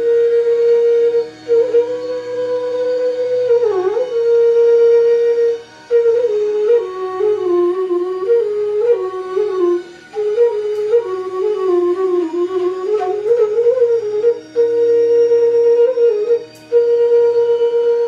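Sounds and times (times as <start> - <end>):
bamboo flute melody: 0.0 - 18.0.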